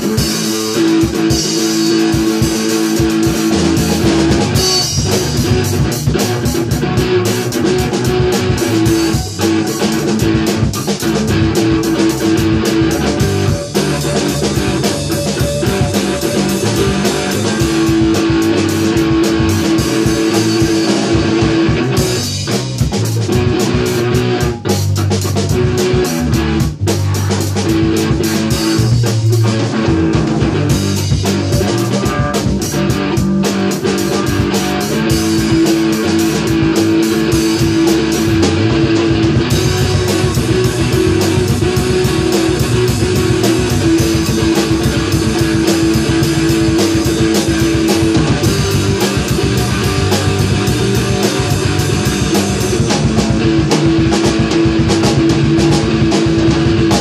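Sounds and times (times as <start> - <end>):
busy drumming and cymbals: 0.0 - 57.0
rock band playing live: 0.0 - 57.0.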